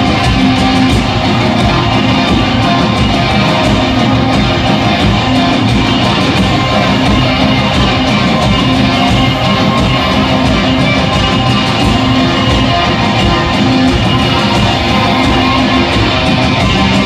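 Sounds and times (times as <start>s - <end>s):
electric guitars: 0.0s - 17.0s
metal band playing live: 0.0s - 17.0s.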